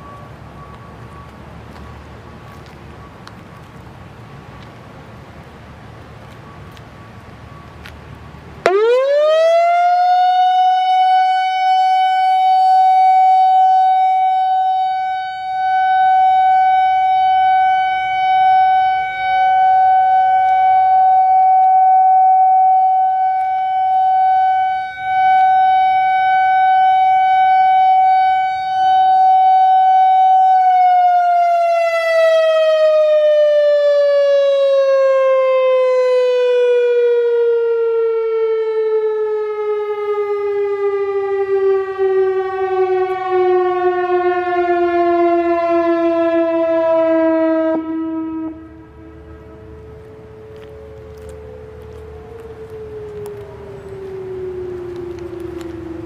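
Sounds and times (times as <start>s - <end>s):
electronic warning siren: 0.0s - 3.8s, 8.6s - 56.0s.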